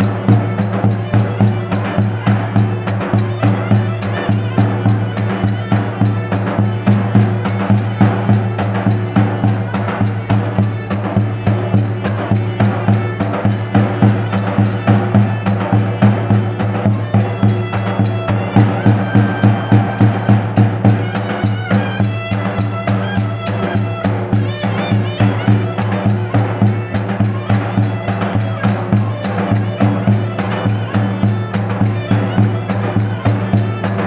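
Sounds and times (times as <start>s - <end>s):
reed pipe ornamented melody: 0.0s - 34.0s
bass drum beating quick rhythm: 5.5s - 33.1s.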